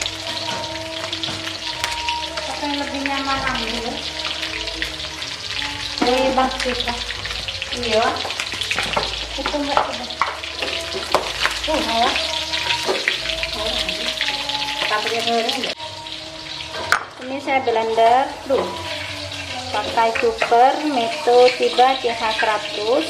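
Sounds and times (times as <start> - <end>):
chicken frying in hot oil: 0.0 - 23.0.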